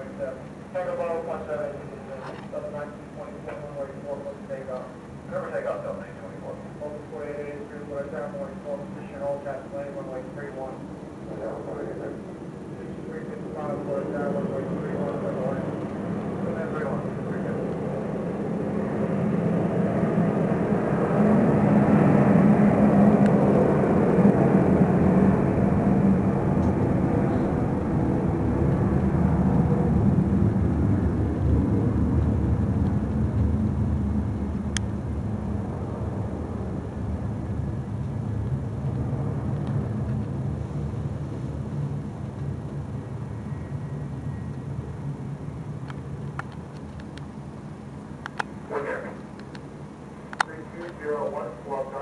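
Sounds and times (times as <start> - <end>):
jet engines at takeoff power: 0.0 - 52.0.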